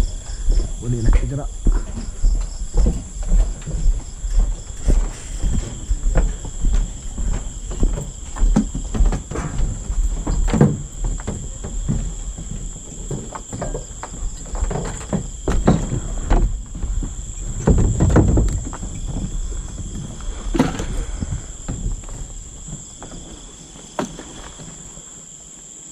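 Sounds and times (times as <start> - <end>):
footsteps and gear knocking: 0.0 - 24.9
crickets chirring: 0.0 - 25.9.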